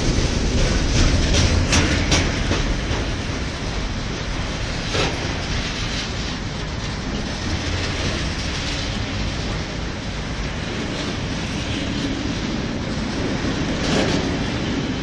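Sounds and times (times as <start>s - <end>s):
freight train rolling past: 0.0s - 15.0s
wheels clacking over rail joints: 0.0s - 15.0s.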